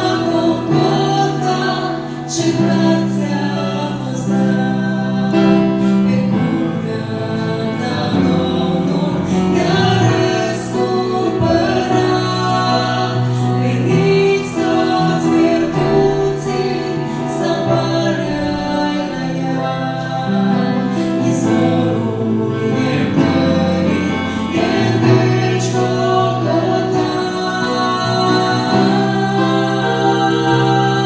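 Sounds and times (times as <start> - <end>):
vocal trio singing in harmony: 0.0 - 31.0.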